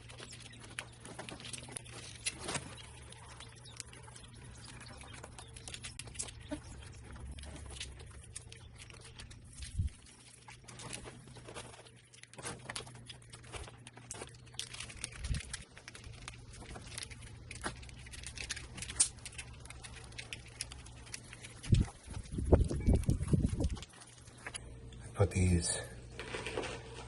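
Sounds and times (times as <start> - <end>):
clicks and rustling of hands on wiring: 0.0 - 25.0
low steady hum: 0.0 - 27.0.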